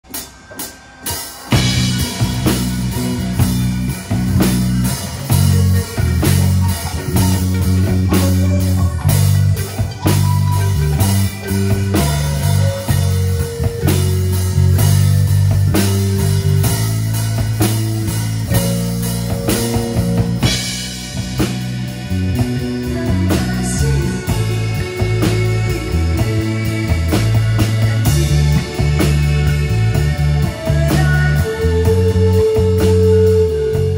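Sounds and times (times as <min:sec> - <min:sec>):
synth-pop band playing: 0:00.0 - 0:33.9
electric bass line: 0:01.5 - 0:33.9.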